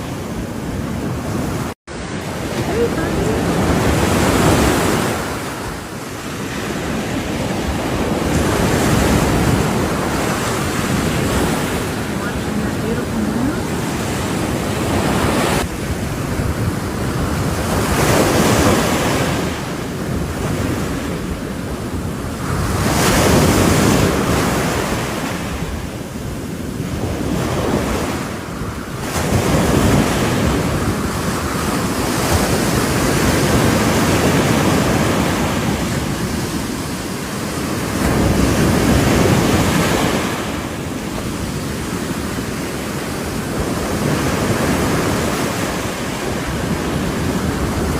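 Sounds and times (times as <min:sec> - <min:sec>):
ocean surf breaking: 0:00.0 - 0:47.9.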